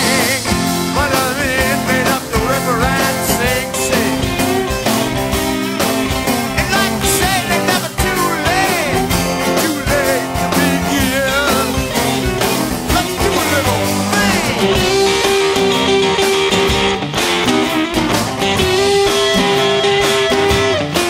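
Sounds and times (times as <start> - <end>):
lead guitar with bent notes: 0.0 - 21.0
rock band playing: 0.0 - 21.0.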